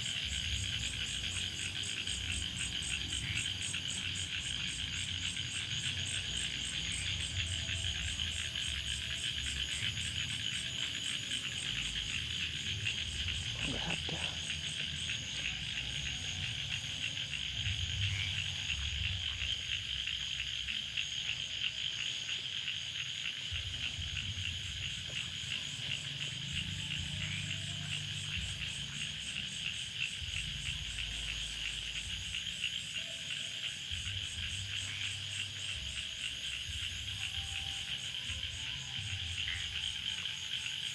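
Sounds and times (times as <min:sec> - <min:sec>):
frogs and insects trilling: 0:00.0 - 0:40.9.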